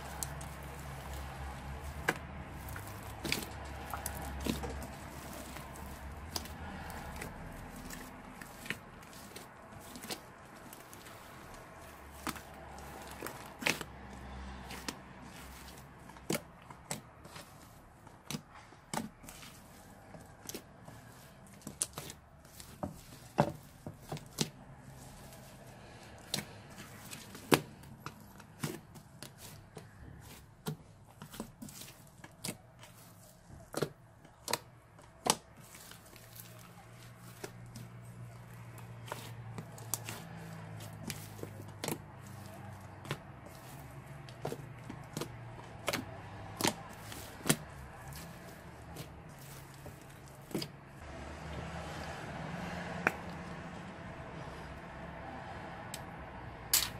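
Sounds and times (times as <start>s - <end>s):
slime squishing by hand: 0.0s - 56.9s.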